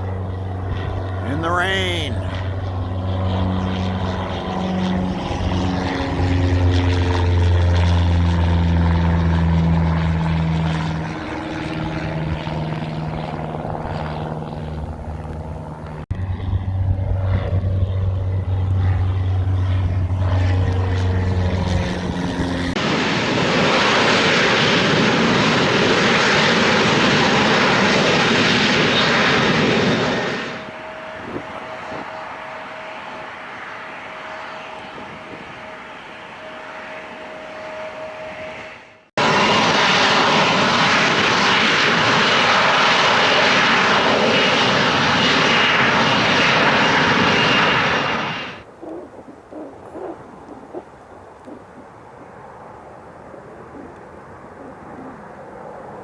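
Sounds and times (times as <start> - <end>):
propeller airplane engine drone: 0.0 - 56.0.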